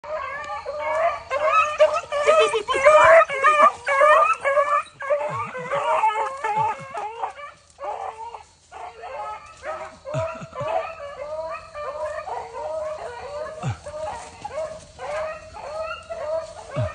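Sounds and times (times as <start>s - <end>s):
hounds yipping and baying: 0.0s - 16.9s.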